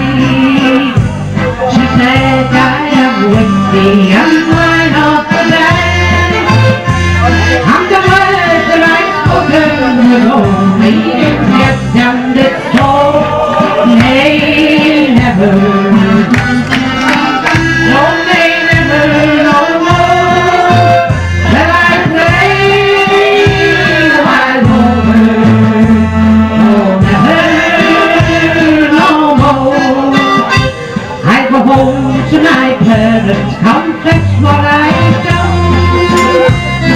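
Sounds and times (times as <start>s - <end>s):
electronic keyboard melody: 0.0s - 31.2s, 34.6s - 36.9s.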